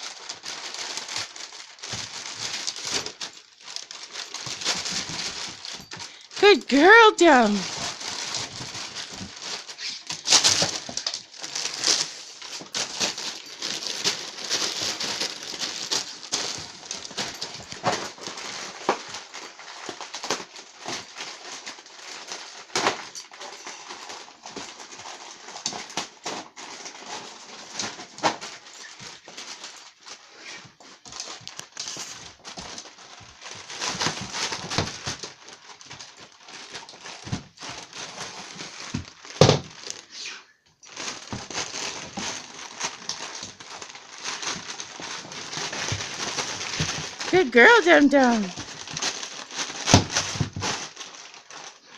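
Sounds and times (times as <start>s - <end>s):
wrapping paper tearing and rustling: 0.0s - 51.9s.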